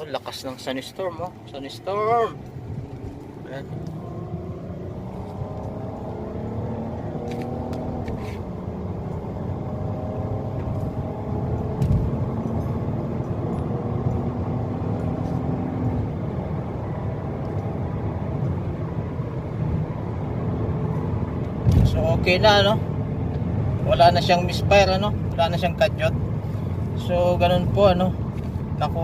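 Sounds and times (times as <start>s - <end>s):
low road rumble: 0.0s - 29.0s
car engine accelerating: 0.8s - 29.0s.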